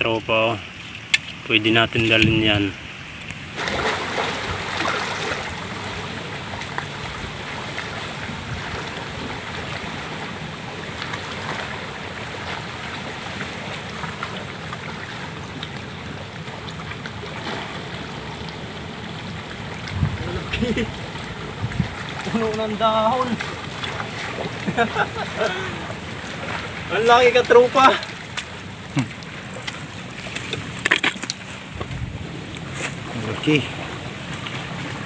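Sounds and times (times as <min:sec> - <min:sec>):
seawater lapping among rocks: 0:00.0 - 0:35.0
small splashes: 0:00.6 - 0:35.0.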